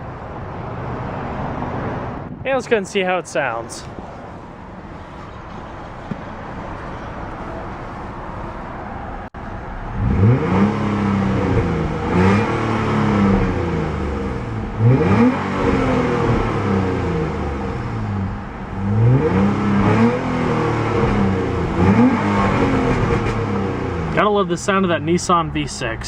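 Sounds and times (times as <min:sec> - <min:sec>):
car engine idling and revving: 0:03.8 - 0:26.0.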